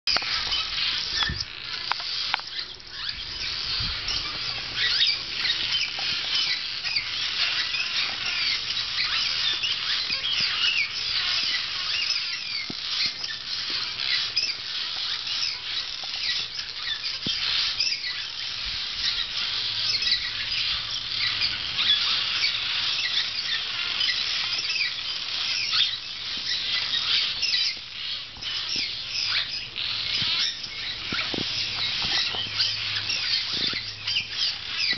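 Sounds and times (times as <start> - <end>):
swallows twittering: 0.1 - 34.9.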